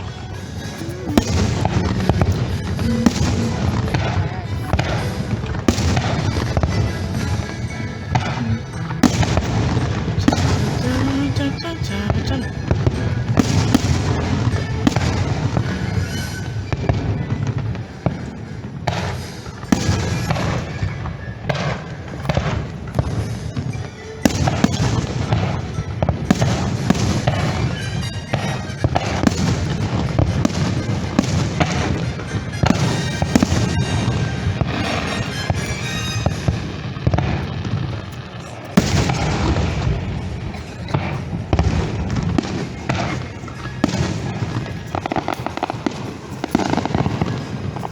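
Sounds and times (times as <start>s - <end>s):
fireworks bangs and booms: 0.0s - 47.9s
fireworks crackling: 0.0s - 47.9s.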